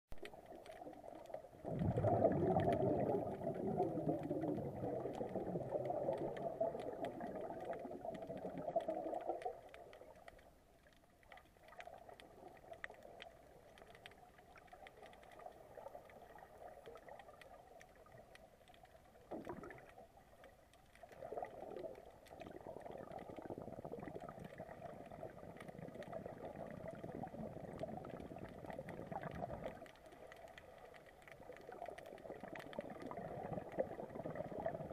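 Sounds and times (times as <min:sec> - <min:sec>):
exhaled air bubbling underwater: 0:00.1 - 0:34.9.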